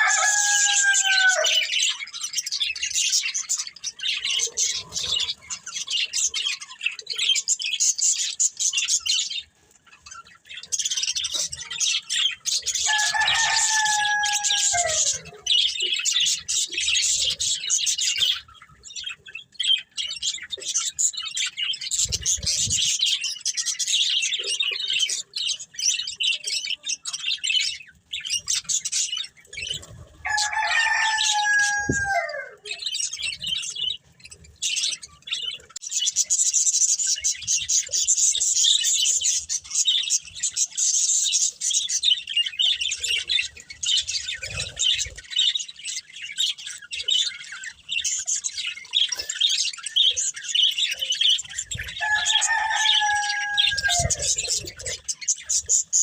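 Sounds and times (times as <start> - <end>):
budgies chattering and chirping: 0.0 - 56.0.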